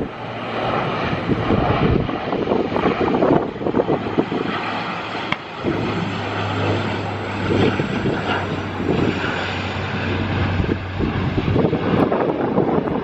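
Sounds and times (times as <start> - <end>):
airliner engines running: 0.0 - 13.0
steady low hum: 0.0 - 13.0
wind buffeting microphone: 0.0 - 13.0.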